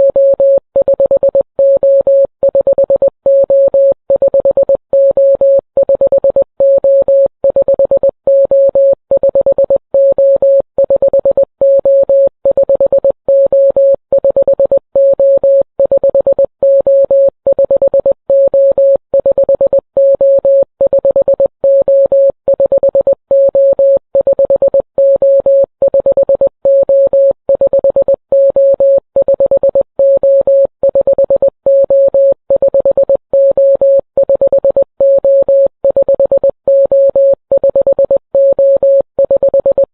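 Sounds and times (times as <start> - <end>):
morse code electronic beeps: 0.0 - 39.9.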